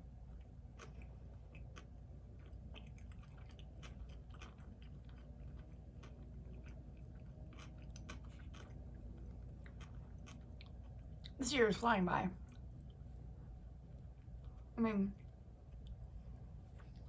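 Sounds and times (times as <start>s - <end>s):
chewing with crunches: 0.0s - 11.4s, 12.4s - 17.0s
low hum: 0.0s - 17.0s.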